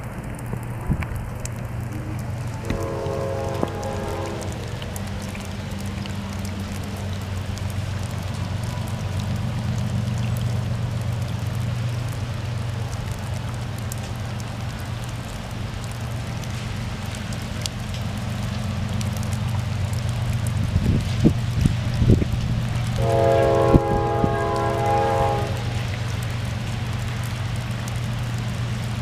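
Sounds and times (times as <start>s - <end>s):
locomotive engine drone: 0.0s - 29.0s
raindrops ticking: 0.0s - 29.0s
steady rain: 0.0s - 29.0s.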